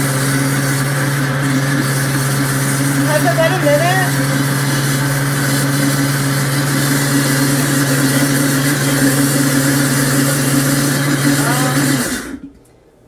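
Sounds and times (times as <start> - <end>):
blender motor humming: 0.0 - 12.6.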